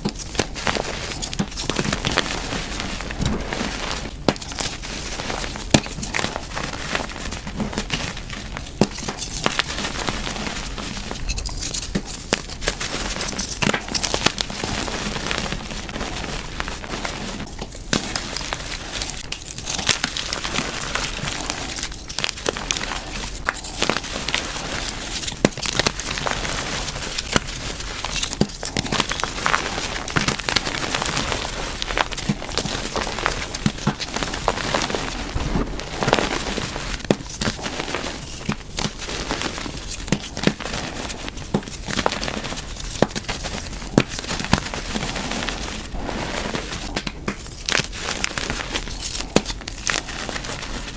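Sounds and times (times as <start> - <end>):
chalk being crushed: 0.0 - 50.9.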